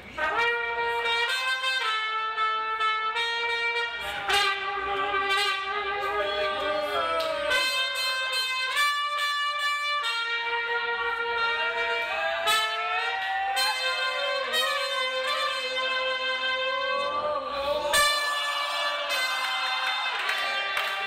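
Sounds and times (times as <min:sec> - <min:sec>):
trumpet melody: 0:00.0 - 0:21.0.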